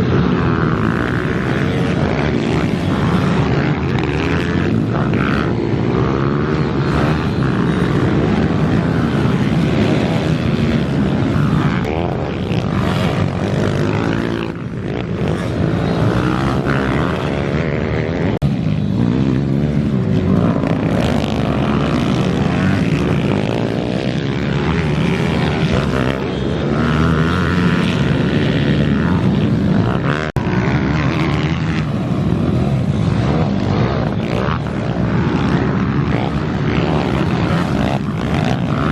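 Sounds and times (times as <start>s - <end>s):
pit bike engine racing: 0.0s - 38.9s.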